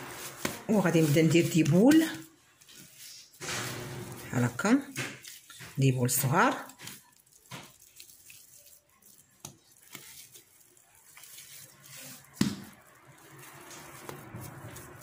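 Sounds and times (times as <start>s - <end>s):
dough squishing: 0.0s - 15.0s.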